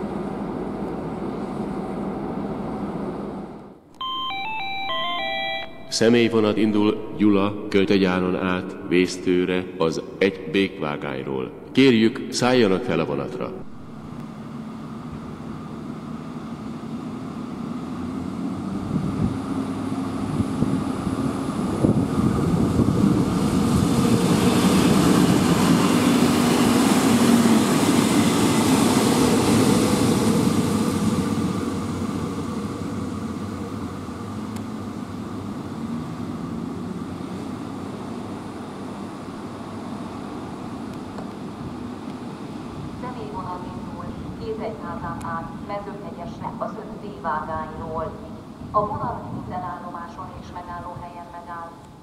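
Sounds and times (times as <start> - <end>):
diesel railcar passing by: 0.0 - 3.8, 6.8 - 49.9.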